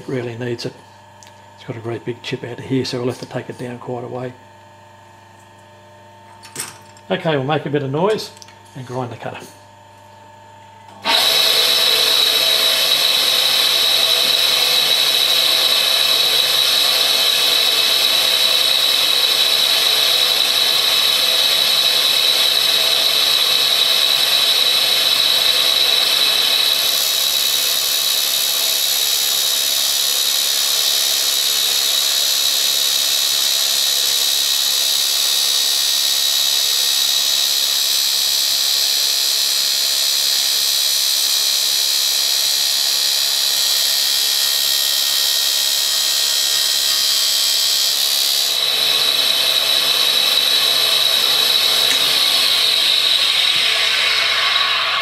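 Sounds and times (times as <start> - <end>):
grinder grinding with high whine: 0.0 - 55.0.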